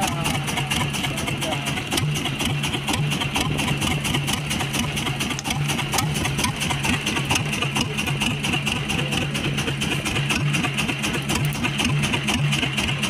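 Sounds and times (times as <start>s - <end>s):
boat engine idling with knocking beat: 0.0s - 13.0s.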